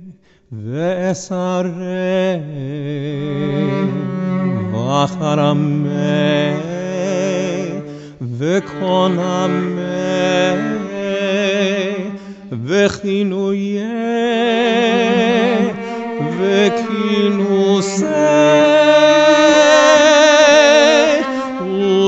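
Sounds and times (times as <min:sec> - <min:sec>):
cantor chanting with vibrato: 0:00.0 - 0:22.0.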